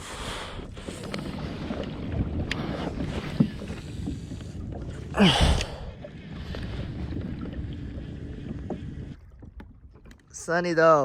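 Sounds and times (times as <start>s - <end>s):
wind rumbling on microphone: 0.0s - 10.4s.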